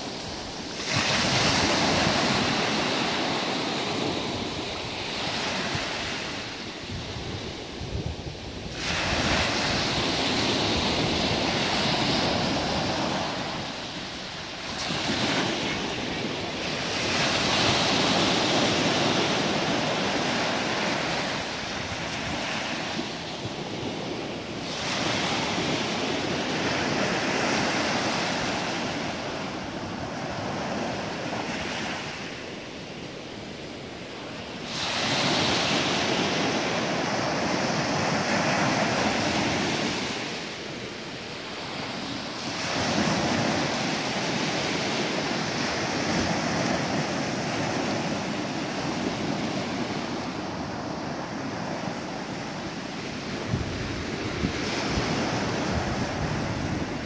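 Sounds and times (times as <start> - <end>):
waves washing up a beach: 0.0 - 57.0.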